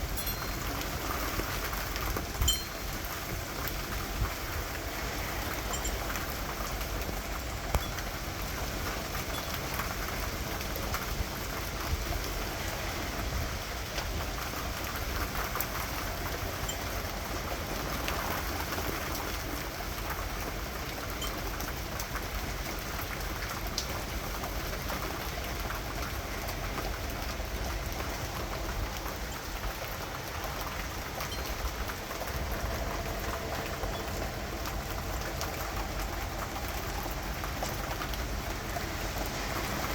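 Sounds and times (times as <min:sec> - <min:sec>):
raindrops ticking on surfaces: 0:00.0 - 0:39.9
steady rain patter: 0:00.0 - 0:39.9.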